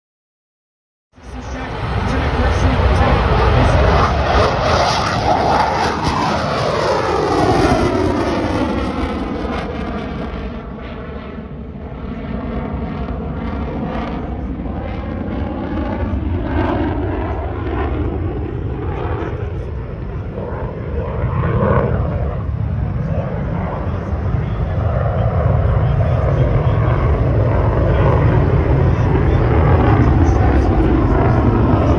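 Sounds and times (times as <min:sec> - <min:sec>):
fighter jet engine roar: 0:01.2 - 0:31.9.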